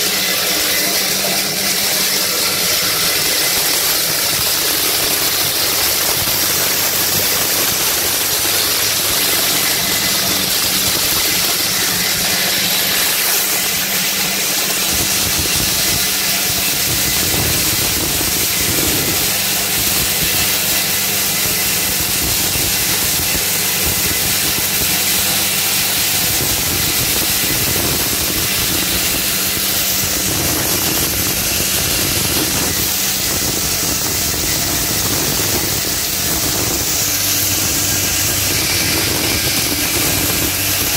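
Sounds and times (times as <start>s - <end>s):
grinding machine running: 0.0s - 40.9s.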